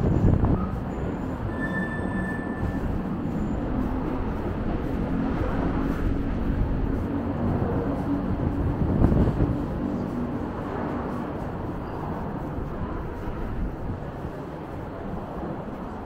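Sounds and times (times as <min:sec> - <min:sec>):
city traffic rumble: 0:00.0 - 0:16.0
faint engine hum: 0:00.0 - 0:16.0.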